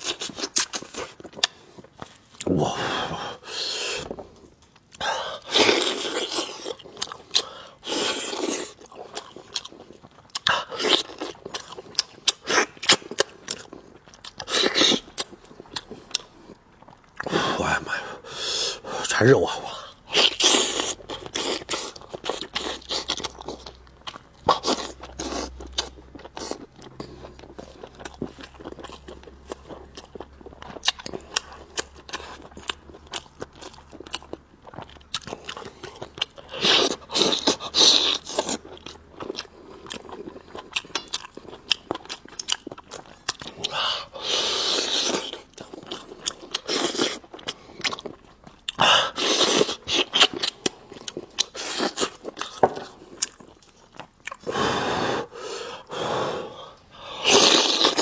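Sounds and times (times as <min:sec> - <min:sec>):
chewing and crunching food: 0:00.0 - 0:56.0, 0:56.6 - 0:58.0.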